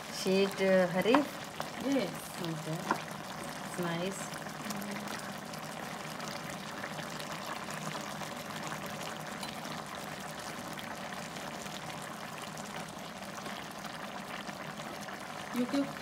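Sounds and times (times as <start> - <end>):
curry bubbling and spitting in pot: 0.0 - 16.0.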